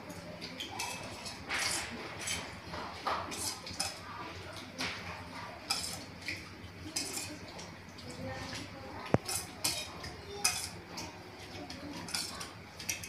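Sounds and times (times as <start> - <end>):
low household background: 0.0 - 13.0
dishes and utensils clinking: 0.4 - 13.0.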